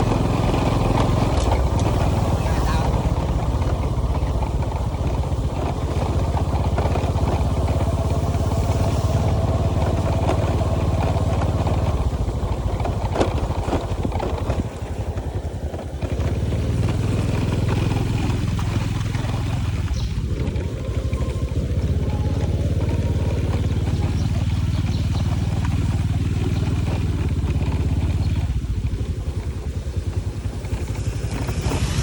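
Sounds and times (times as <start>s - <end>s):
small motorcycle engine running: 0.0s - 32.0s.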